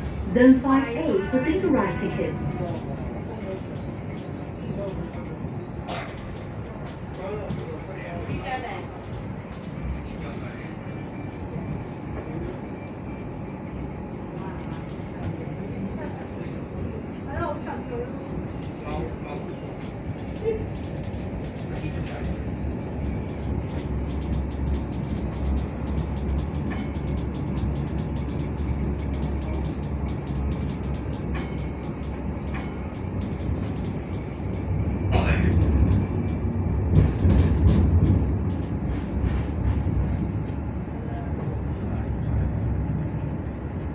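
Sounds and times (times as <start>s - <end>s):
train rumbling from inside: 0.0s - 43.9s.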